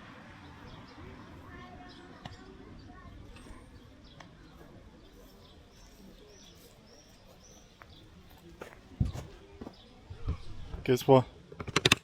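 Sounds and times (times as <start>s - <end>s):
low outdoor background: 0.0s - 12.0s
small birds chirping: 0.1s - 11.5s.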